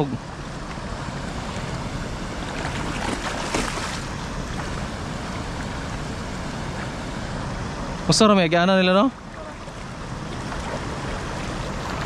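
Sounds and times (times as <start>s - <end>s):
water rushing in a channel: 0.0s - 12.0s.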